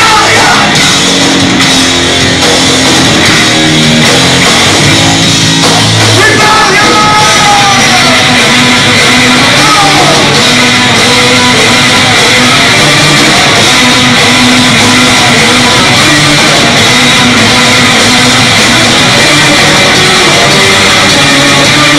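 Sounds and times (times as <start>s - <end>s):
distorted electric guitar: 0.0s - 21.9s
doom metal band playing live: 0.0s - 21.9s.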